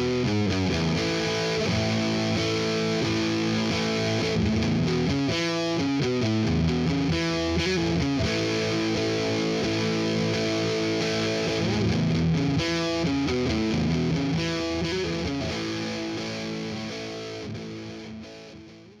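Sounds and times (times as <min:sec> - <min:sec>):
distorted electric guitar music: 0:00.0 - 0:19.0.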